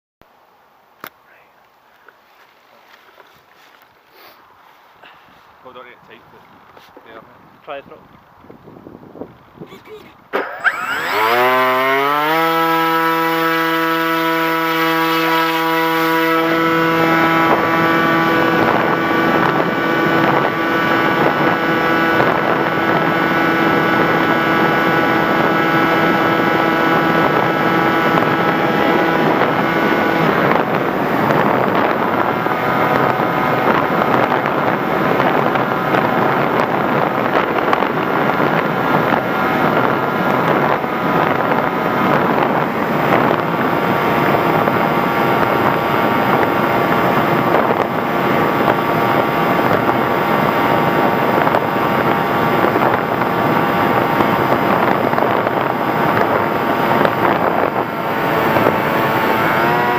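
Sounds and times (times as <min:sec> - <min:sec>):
rushing wind noise: 0:05.3 - 0:59.9
model aircraft motor whine: 0:10.3 - 0:59.9.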